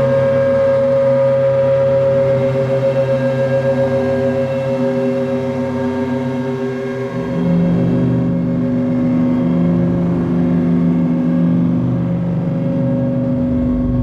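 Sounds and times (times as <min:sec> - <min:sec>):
synthesizer drone tones: 0:00.0 - 0:14.0.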